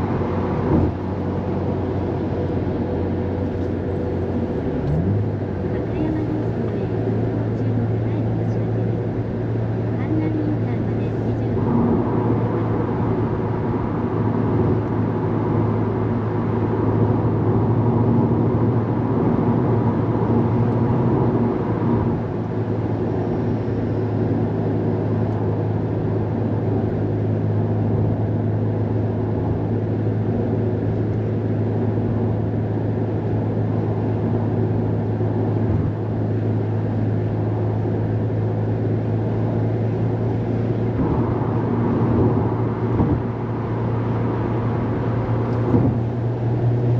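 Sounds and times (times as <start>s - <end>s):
car engine drone from inside cabin: 0.0s - 46.9s.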